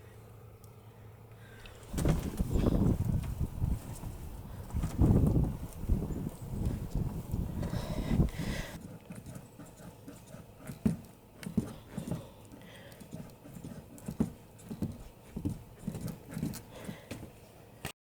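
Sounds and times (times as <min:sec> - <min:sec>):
footsteps on wooden boards: 0:01.9 - 0:17.4.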